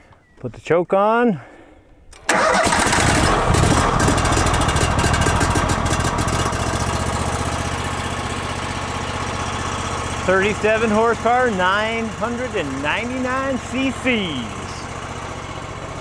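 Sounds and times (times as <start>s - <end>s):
petrol engine starting and running: 2.1s - 16.0s.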